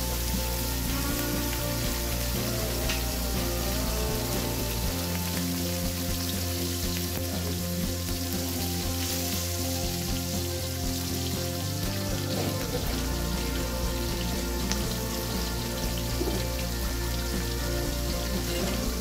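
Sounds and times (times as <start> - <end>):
background music: 0.0 - 19.0
fish sizzling in oil: 0.0 - 19.0.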